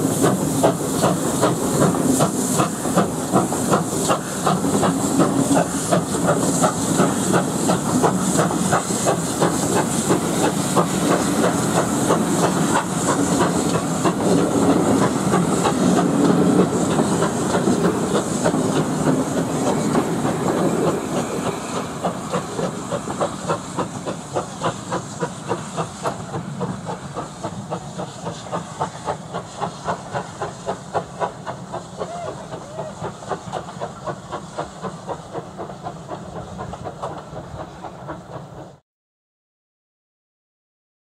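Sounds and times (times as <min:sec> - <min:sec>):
train wheels clicking over rail joints: 0:00.0 - 0:38.8.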